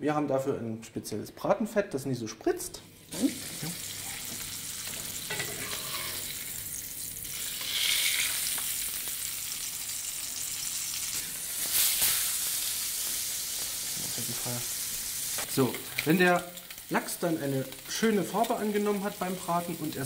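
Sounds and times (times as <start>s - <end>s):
fish sizzling in a frying pan: 2.9s - 20.0s.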